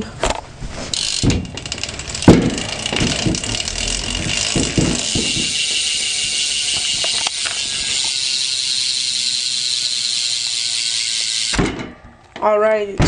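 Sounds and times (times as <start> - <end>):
bike hub ratchet ticking: 0.9 - 11.6.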